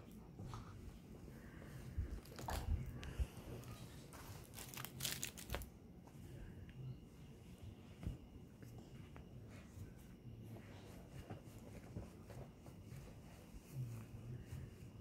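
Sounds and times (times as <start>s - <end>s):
rustling and crinkling: 0.0s - 6.4s, 7.4s - 15.0s.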